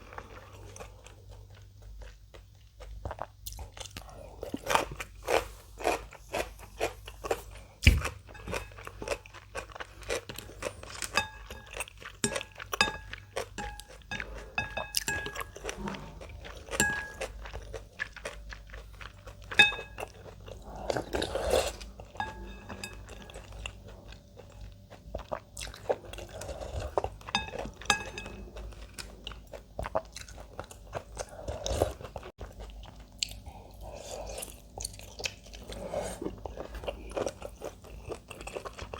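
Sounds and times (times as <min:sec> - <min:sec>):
crunchy chewing: 0:00.1 - 0:38.9.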